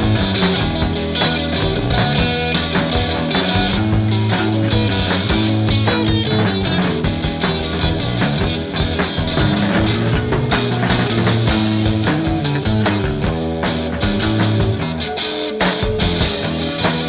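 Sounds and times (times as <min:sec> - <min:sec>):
instrumental rock music: 0:00.0 - 0:17.0.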